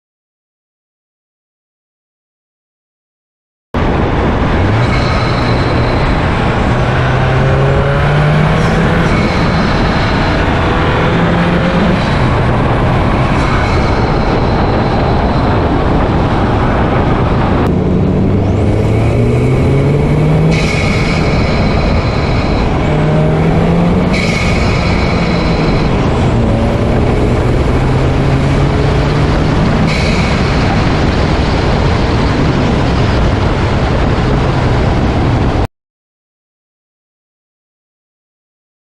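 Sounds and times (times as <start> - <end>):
car engine revving: 3.8 - 35.6.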